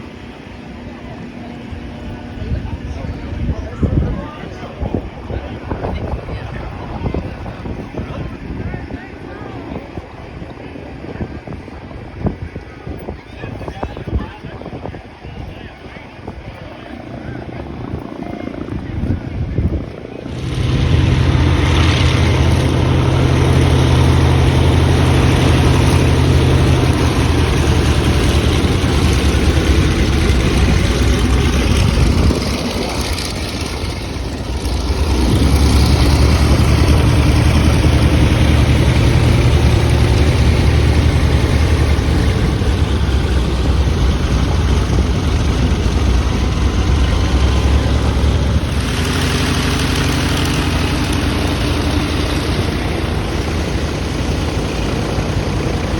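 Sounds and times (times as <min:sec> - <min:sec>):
propeller aircraft engine running: 0:00.0 - 0:55.9.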